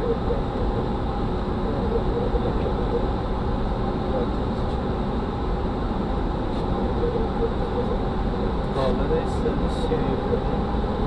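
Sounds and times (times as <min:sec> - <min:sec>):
airflow and engine drone: 0:00.0 - 0:11.0
faint steady hum: 0:00.0 - 0:11.0.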